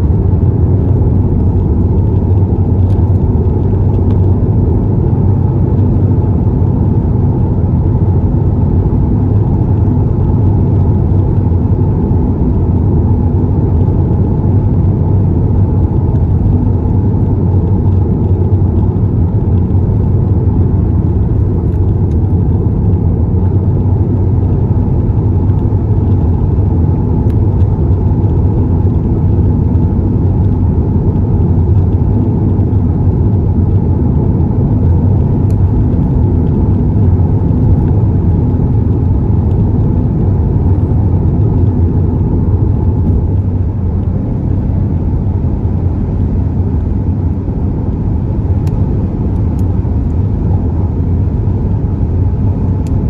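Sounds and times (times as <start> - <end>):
car engine drone: 0.0 - 53.0
tyre and road roar: 0.0 - 53.0.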